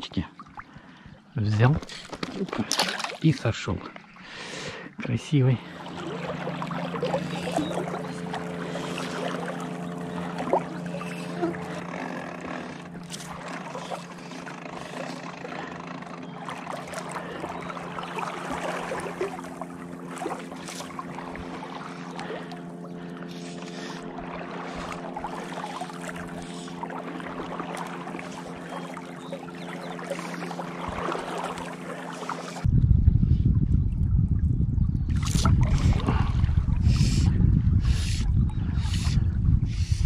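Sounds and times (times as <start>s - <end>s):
water lapping: 0.0s - 32.7s, 35.1s - 40.0s
motorboat engine humming: 0.3s - 40.0s.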